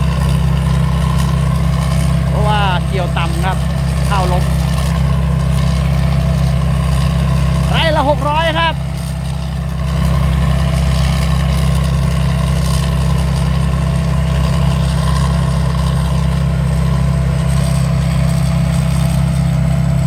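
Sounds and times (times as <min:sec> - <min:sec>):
combine harvester engine drone: 0:00.0 - 0:20.0.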